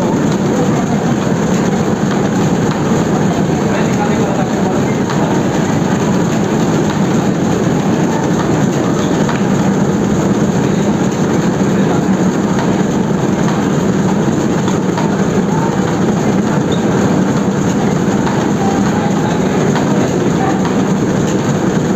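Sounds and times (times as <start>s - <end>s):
printing press running: 0.0s - 21.9s.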